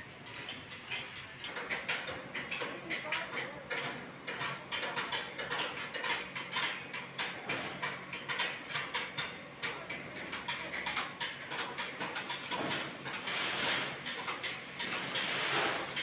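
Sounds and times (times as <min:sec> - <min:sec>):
rapid mechanical clicking: 0:00.2 - 0:16.0.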